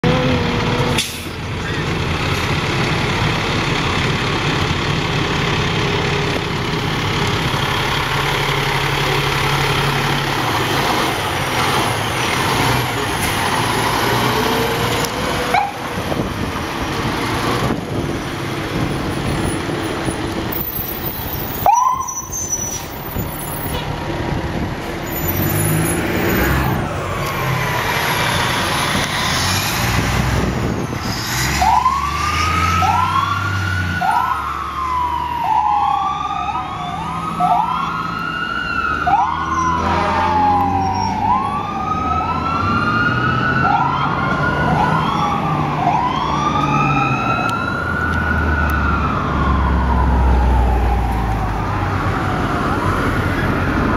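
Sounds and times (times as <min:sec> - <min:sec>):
fire truck engine rumble: 0:00.0 - 0:53.9
sirens wailing: 0:02.6 - 0:23.9, 0:24.6 - 0:53.9.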